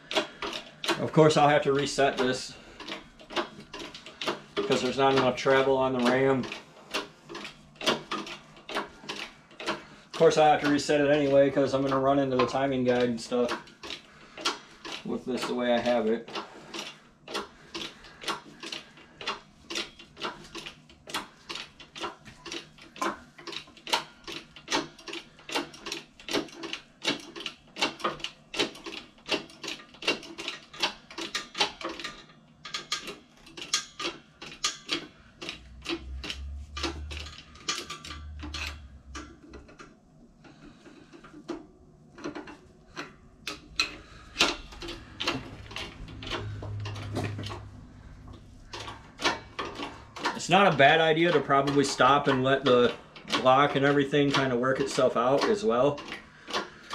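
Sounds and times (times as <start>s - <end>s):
hydraulic jack clicking: 0.0s - 39.9s, 42.2s - 56.9s.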